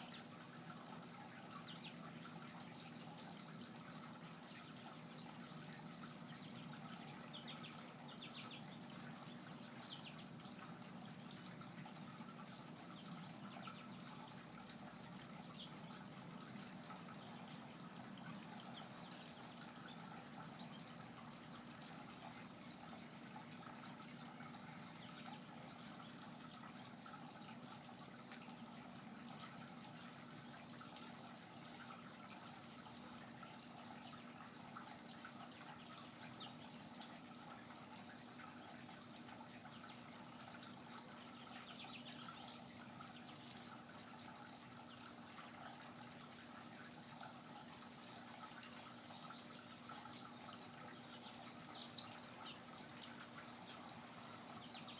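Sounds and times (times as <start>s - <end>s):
faint water trickle: 0.0s - 54.9s.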